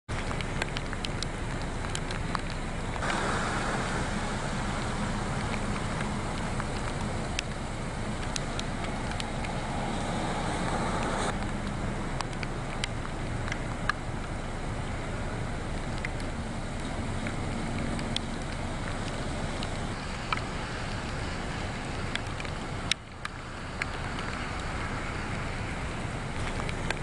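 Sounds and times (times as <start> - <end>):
distant traffic: 0.1 - 27.0
sharp drip clicks: 0.1 - 27.0
steady rain hiss: 0.1 - 27.0.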